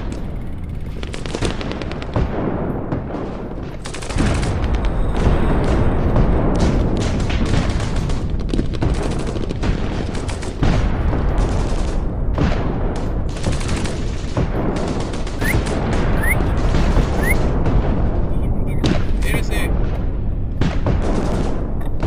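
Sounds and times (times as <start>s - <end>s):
airsoft guns firing: 0.0s - 17.8s, 20.6s - 22.0s.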